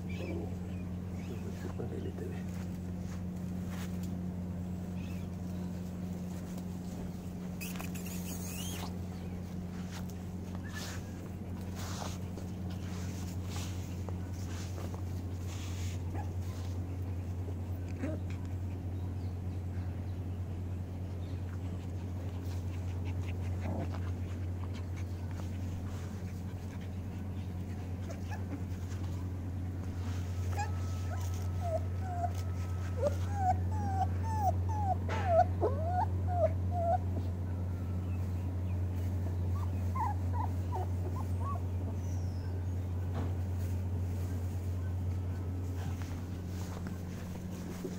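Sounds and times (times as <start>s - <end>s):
puppies whimpering and yipping: 0.0s - 2.2s, 4.8s - 19.5s, 20.9s - 42.9s, 44.9s - 47.9s
steady low hum: 0.0s - 47.9s.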